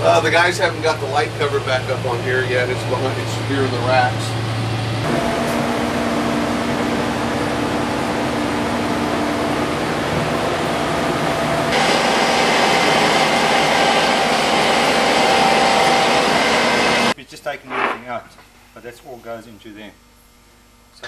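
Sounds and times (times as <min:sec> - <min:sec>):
high-pitched machine whir: 0:00.0 - 0:17.2
machinery humming: 0:00.0 - 0:20.0.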